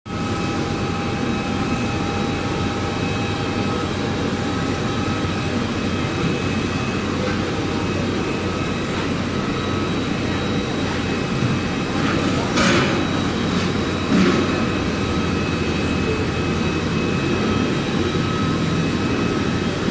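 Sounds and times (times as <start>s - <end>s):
jet engines whining rumble: 0.1s - 19.9s.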